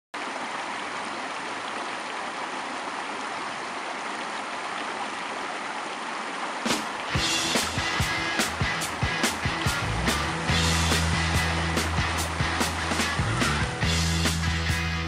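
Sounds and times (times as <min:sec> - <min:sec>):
river rushing over rocks: 0:00.2 - 0:14.4.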